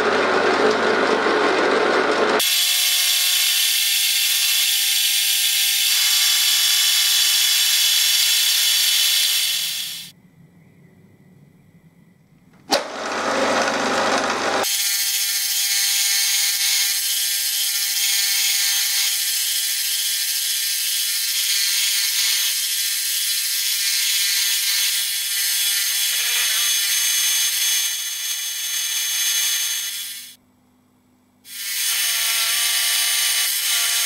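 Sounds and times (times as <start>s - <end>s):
drill cutting metal: 0.2s - 10.1s, 12.7s - 30.4s, 31.5s - 34.0s.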